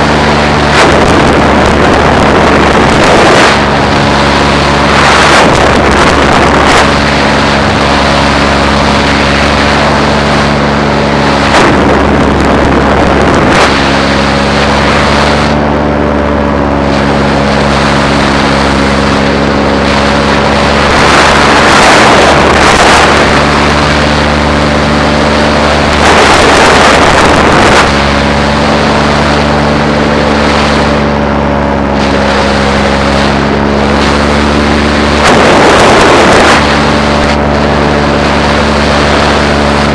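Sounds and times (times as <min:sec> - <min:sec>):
paramotor engine running: 0:00.0 - 0:39.9
wind rushing over microphone: 0:00.0 - 0:39.9.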